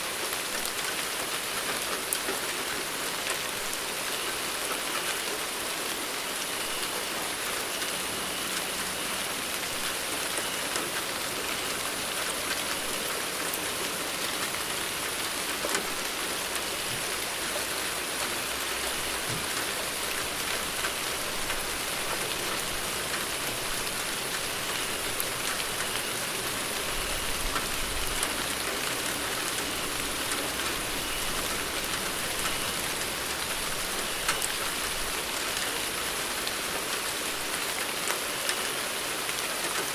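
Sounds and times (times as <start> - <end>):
raindrops ticking on a surface: 0.0 - 39.9
steady rain hiss: 0.0 - 39.9.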